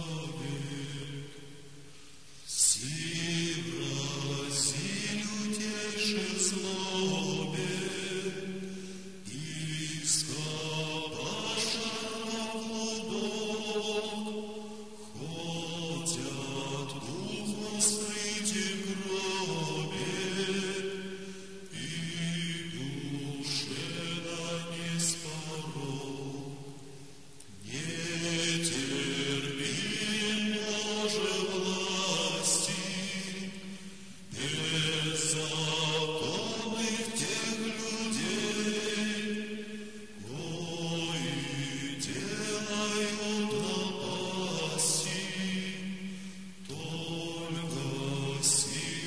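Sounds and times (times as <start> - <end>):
choir chanting in held notes: 0.0 - 1.8, 2.4 - 49.0.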